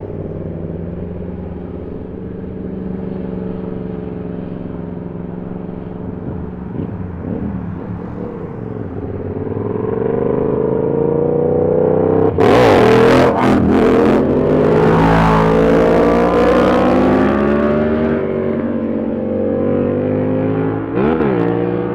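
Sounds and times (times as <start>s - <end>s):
motorcycle engine revving: 0.0s - 21.9s
motorcycle engines running: 0.0s - 21.9s.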